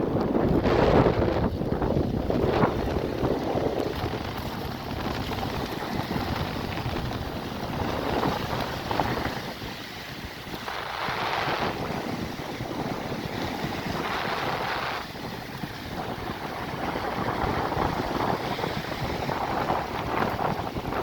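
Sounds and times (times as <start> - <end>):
sea waves washing in: 0.0 - 21.0
wind rumbling on microphone: 0.0 - 21.0.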